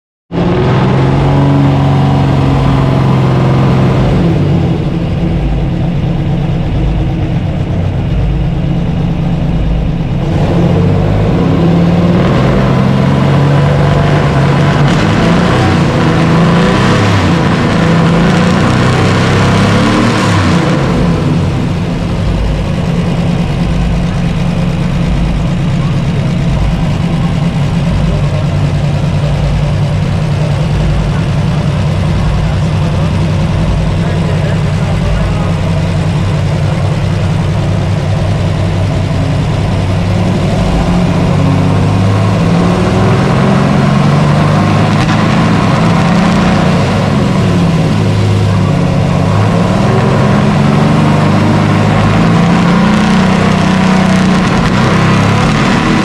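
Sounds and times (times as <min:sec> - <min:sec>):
race car engine revving: 0:00.3 - 0:56.0.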